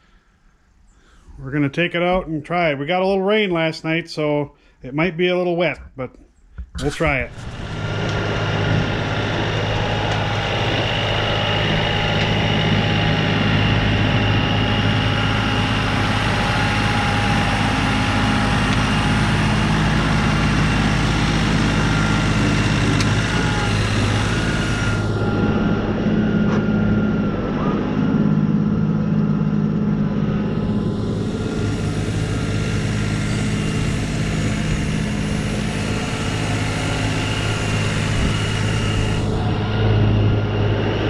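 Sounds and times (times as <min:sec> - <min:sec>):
thin whine: 0:06.8 - 0:41.0
tractor engine running: 0:06.8 - 0:41.0.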